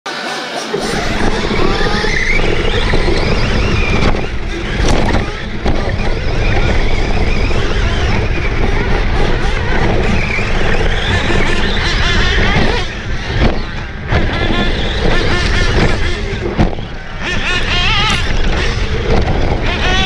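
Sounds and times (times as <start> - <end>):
toy car motor whining: 0.8 - 16.5, 17.2 - 20.0
tyres rumbling on gravel: 0.8 - 20.0.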